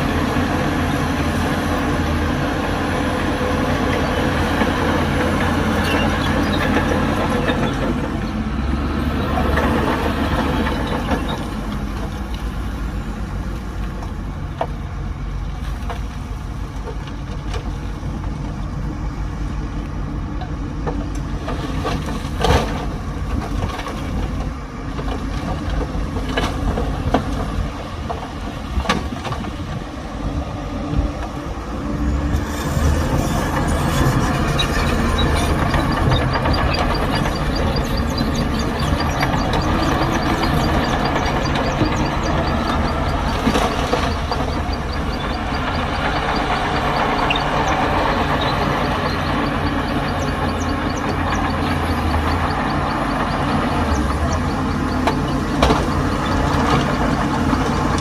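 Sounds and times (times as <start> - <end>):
diesel machinery engines running: 0.0 - 58.0.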